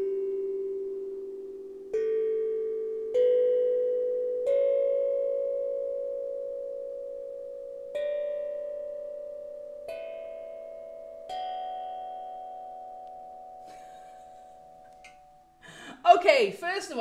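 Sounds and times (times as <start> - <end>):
steel tongue drum notes: 0.0 - 16.0.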